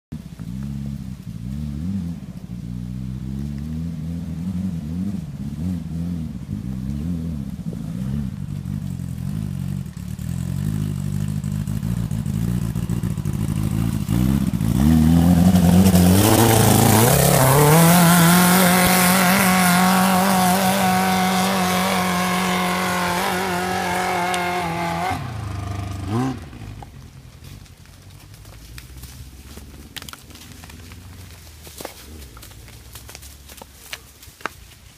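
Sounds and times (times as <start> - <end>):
buggy engine revving: 0.1 - 34.2.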